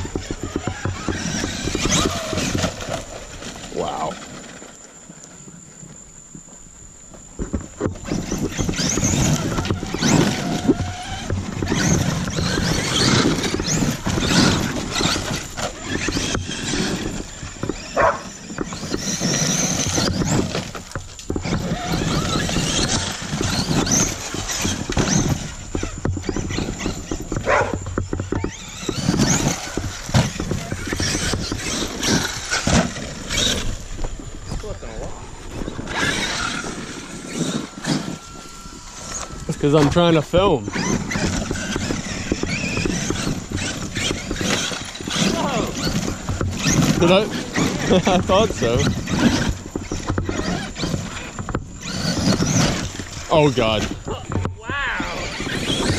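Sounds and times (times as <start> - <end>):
electric motors whining: 0.0 - 55.9
tyres crunching on gravel: 0.0 - 55.9.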